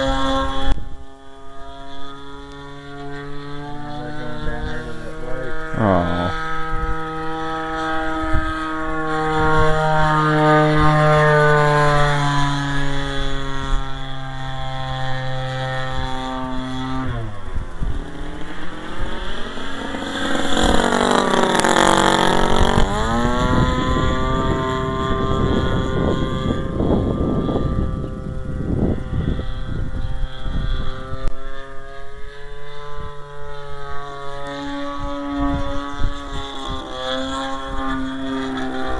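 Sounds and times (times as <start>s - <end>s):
model airplane engine high revs: 0.0s - 38.9s
wind buffeting microphone: 0.0s - 38.9s.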